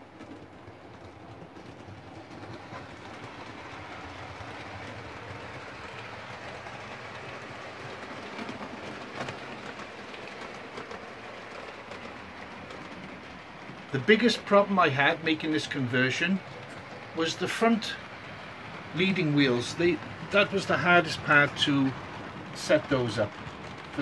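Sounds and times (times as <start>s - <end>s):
wheels clicking on rail joints: 0.0s - 24.0s.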